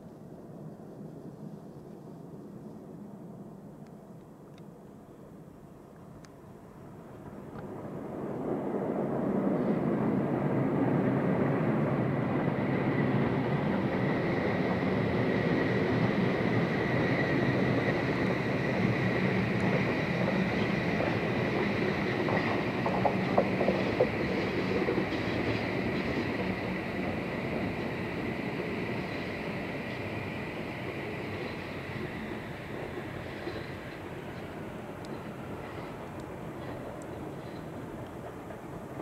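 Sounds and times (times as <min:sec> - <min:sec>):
passenger train rumbling: 0:00.0 - 0:39.0.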